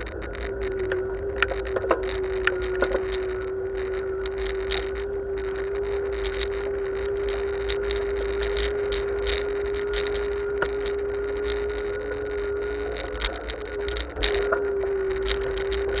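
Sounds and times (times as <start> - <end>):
bicycle rattles and clicks: 0.0 - 16.0
steady whine: 0.0 - 16.0
wind and road rumble: 0.0 - 16.0.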